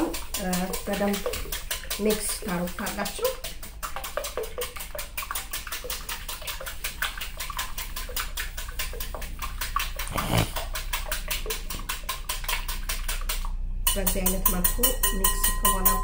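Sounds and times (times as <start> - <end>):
whisk beating eggs in glass bowl: 0.0 - 16.0.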